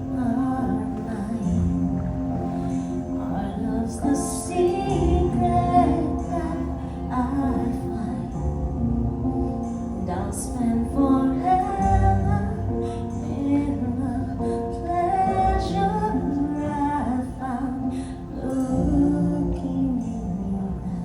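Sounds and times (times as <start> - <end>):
woman singing: 0.0 - 9.0, 9.9 - 21.0.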